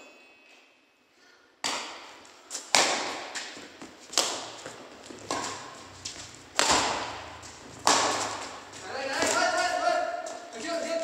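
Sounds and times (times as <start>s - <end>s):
rackets hitting shuttlecock: 1.6s - 10.5s.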